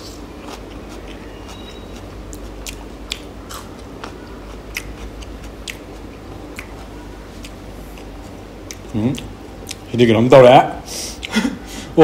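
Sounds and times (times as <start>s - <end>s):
person chewing food: 0.0s - 9.9s.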